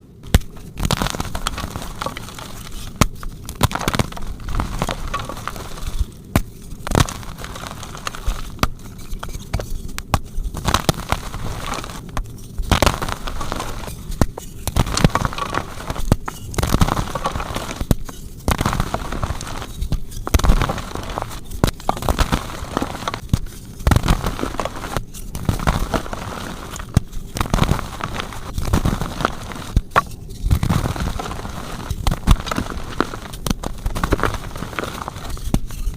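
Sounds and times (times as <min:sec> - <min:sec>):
chalk being crushed and crumbled: 0:00.2 - 0:35.9.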